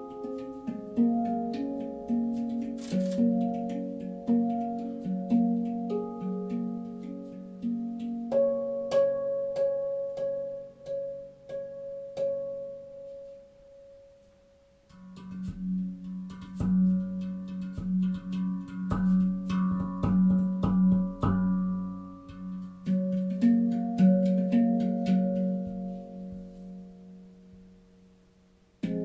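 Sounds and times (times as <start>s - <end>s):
low handpan note ringing: 0.0s - 14.2s, 14.9s - 28.2s, 28.8s - 29.0s
handpan notes: 0.0s - 29.0s.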